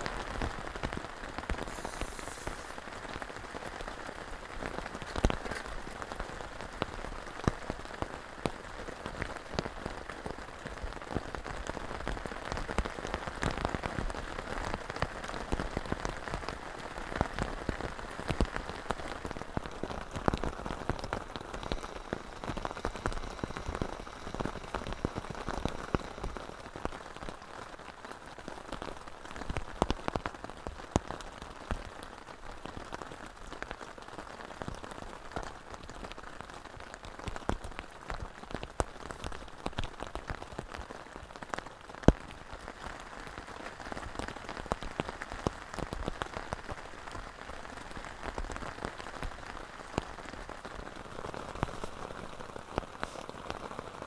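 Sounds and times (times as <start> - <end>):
heavy rain on tarp: 0.0 - 54.0.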